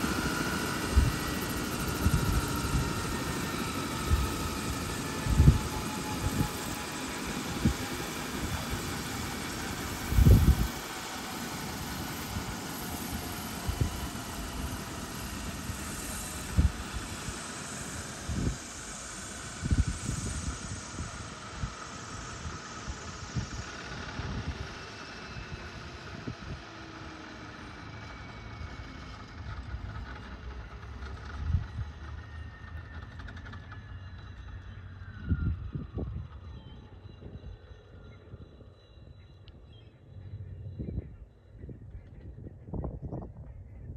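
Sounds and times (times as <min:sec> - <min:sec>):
helicopter turbine engines running: 0:00.0 - 0:43.9.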